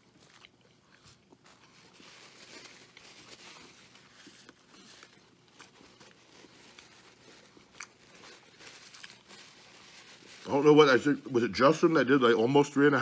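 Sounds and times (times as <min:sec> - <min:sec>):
faint close-up chewing: 0:00.0 - 0:10.5
paper wrapper crinkling: 0:00.1 - 0:13.0.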